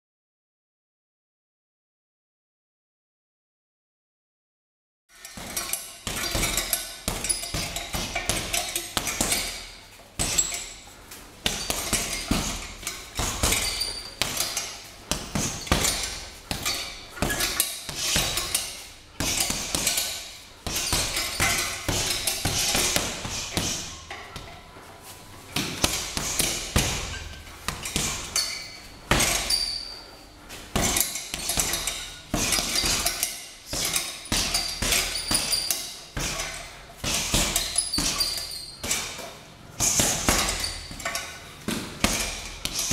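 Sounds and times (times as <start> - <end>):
fists thudding on punching bag: 5.2 - 10.8, 11.4 - 24.6, 25.5 - 29.8, 30.7 - 42.9.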